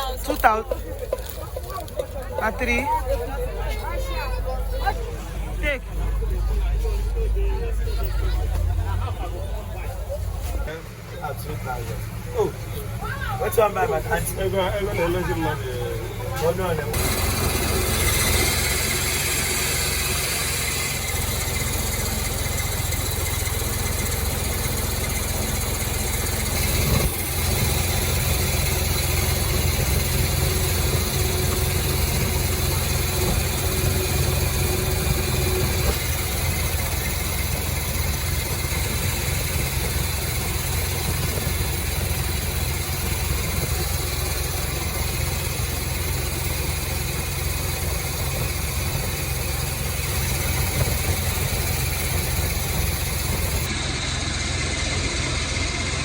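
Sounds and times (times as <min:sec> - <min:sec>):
engine humming steadily: 0:00.0 - 0:56.0.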